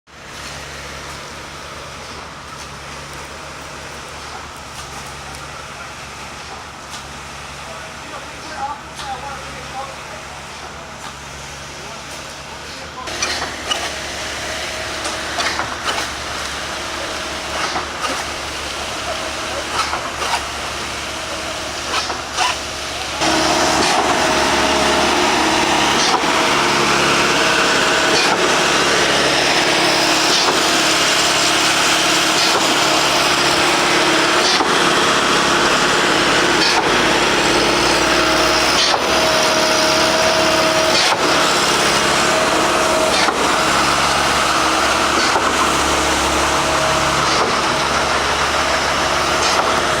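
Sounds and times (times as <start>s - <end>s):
heavy machine engine running: 0.1s - 50.0s.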